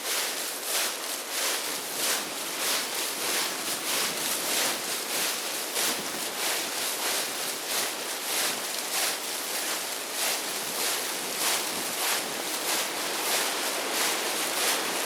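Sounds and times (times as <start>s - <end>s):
footsteps crunching on gravel: 0.0s - 15.0s.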